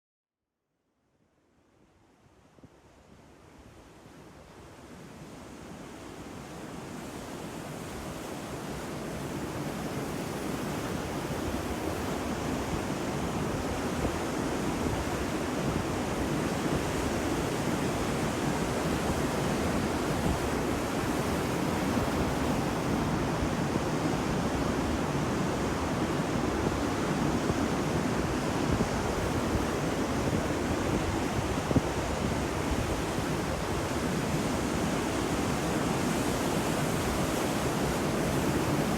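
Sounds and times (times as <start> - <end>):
ocean waves on a beach: 2.3 - 38.9.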